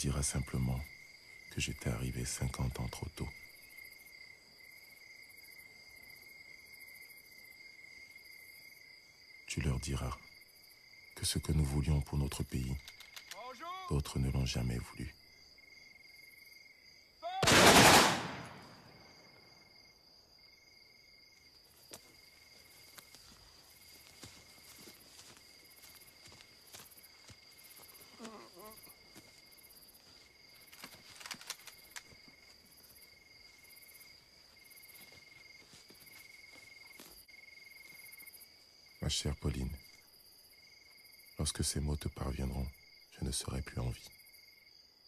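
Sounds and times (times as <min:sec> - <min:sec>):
high insect drone: 0:00.0 - 0:17.4, 0:18.4 - 0:45.0
crickets chirping: 0:00.0 - 0:45.0.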